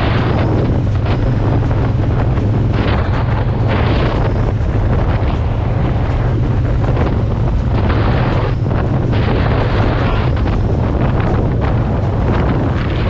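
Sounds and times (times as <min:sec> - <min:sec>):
motorcycle engine cruising: 0:00.0 - 0:13.0
wind buffeting microphone: 0:00.0 - 0:13.0.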